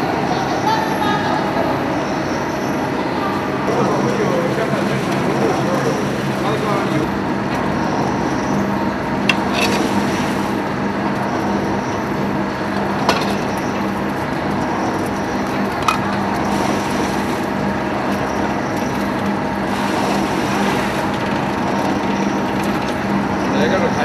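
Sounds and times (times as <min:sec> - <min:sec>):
oil press mechanical drone: 0:02.0 - 0:24.0.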